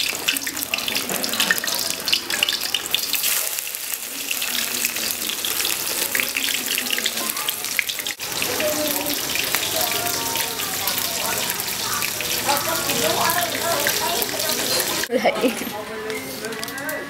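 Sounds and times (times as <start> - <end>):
fish sizzling in hot oil: 0.0 - 15.1.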